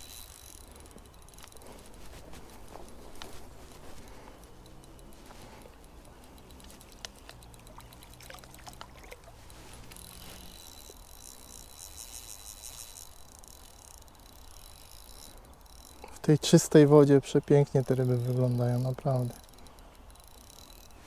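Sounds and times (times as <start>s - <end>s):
insect chirring: 0.0s - 21.0s
light clicks and ticks: 0.0s - 21.0s.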